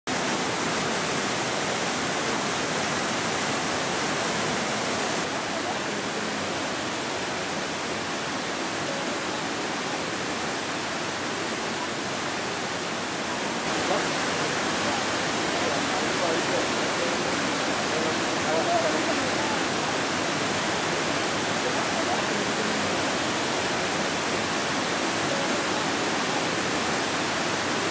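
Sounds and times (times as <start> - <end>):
waterfall rushing: 0.1 - 27.9.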